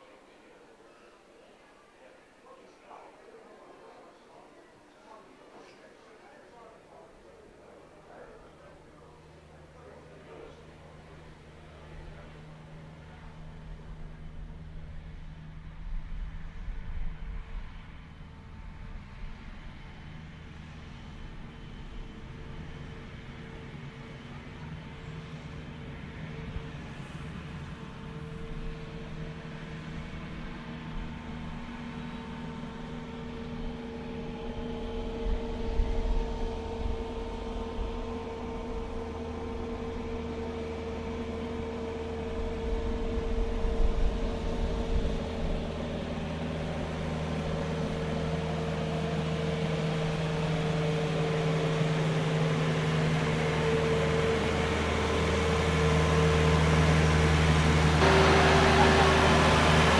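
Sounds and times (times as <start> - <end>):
small tractor engine running: 6.9 - 59.9.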